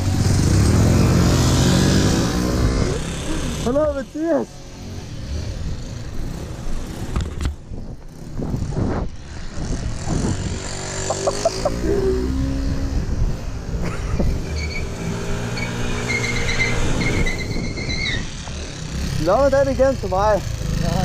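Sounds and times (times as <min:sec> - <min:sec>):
small motorbike engine revving: 0:00.0 - 0:07.4, 0:08.1 - 0:21.0.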